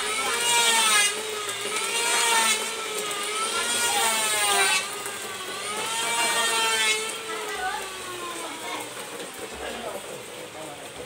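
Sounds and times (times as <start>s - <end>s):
small engine running unevenly: 0.0s - 11.0s.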